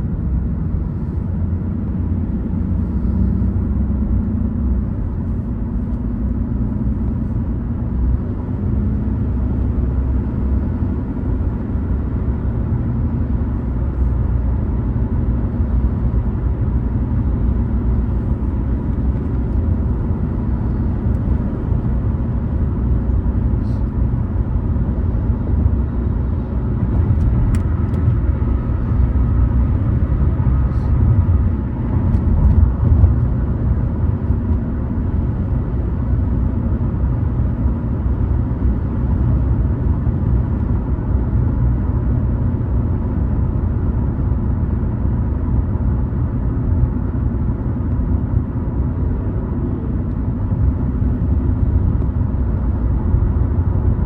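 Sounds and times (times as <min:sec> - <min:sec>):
car tyres and engine rumbling: 0:00.0 - 0:54.0.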